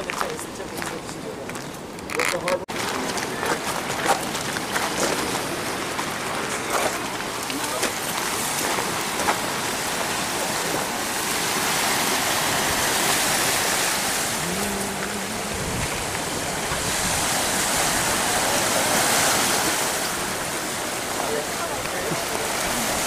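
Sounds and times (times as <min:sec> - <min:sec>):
surf washing over rocks: 0:00.0 - 0:23.0.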